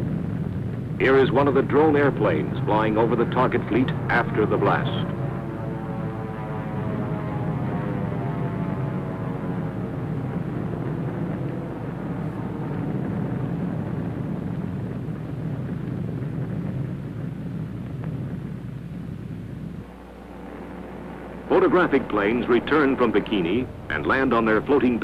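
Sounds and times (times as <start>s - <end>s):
propeller airplane engine droning: 0.0s - 25.0s.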